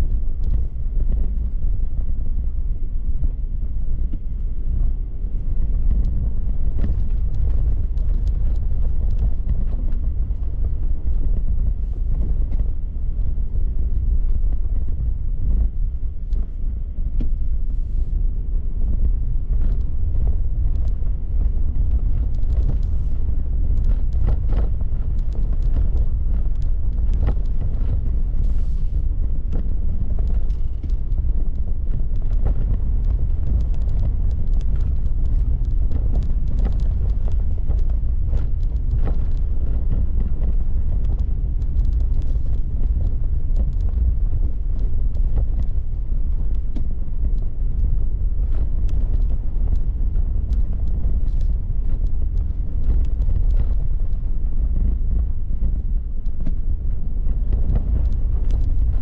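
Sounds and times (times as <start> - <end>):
stones clicking under tyres: 5.4 - 15.0, 18.2 - 59.0.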